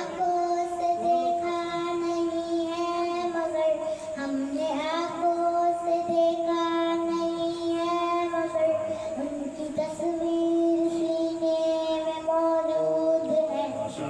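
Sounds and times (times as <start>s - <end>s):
children singing in unison: 0.0s - 14.0s.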